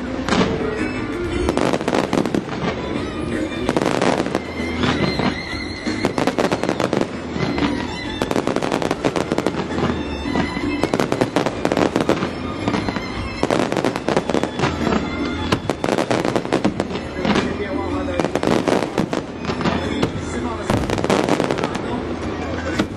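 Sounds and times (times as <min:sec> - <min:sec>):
fireworks crackling pops: 0:00.0 - 0:22.9.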